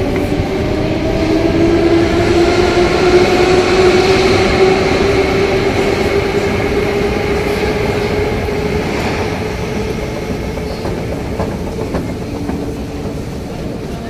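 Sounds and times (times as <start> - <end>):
metro train rumble: 0.0 - 14.0
train whine: 0.0 - 14.0.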